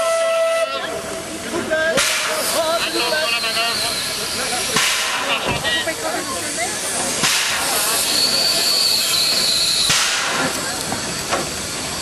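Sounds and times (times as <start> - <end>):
loud gushes of steam: 0.0 - 12.0
steam locomotive hissing: 0.0 - 12.0.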